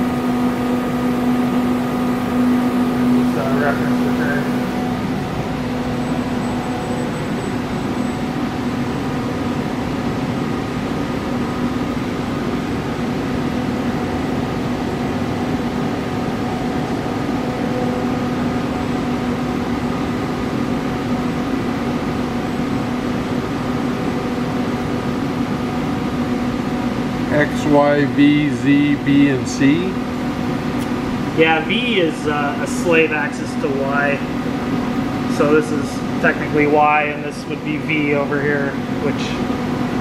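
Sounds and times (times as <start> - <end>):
cnc router machine hum: 0.0 - 40.0.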